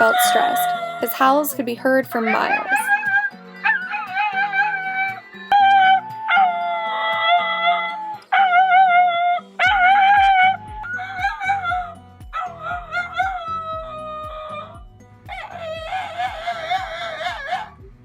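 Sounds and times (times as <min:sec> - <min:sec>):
dog howling: 0:00.0 - 0:01.3, 0:02.3 - 0:17.8
background music: 0:00.0 - 0:18.0.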